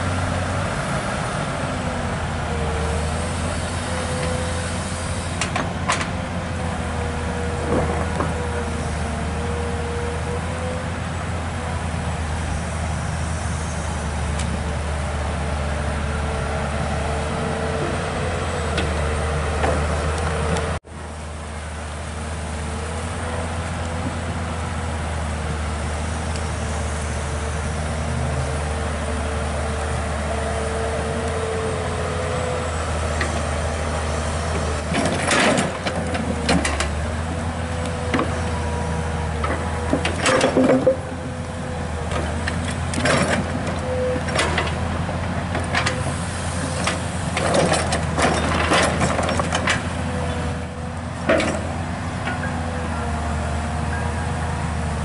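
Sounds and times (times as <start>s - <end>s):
engine whine: 0.0s - 55.0s
excavator diesel engine running: 0.0s - 55.0s.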